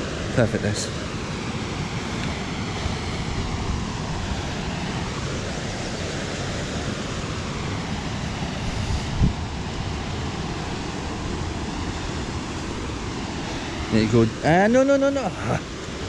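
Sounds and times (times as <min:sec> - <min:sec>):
waterfall rushing: 0:00.0 - 0:16.0
wind buffeting microphone: 0:01.3 - 0:16.0.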